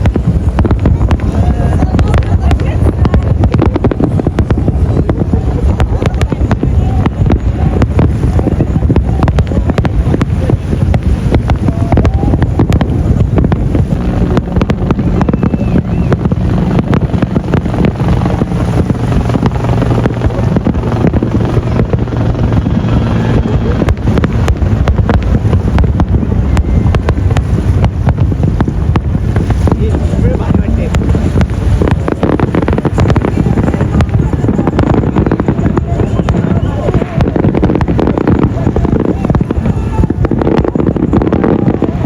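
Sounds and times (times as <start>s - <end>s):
fireworks cracking and banging: 0.0s - 42.0s.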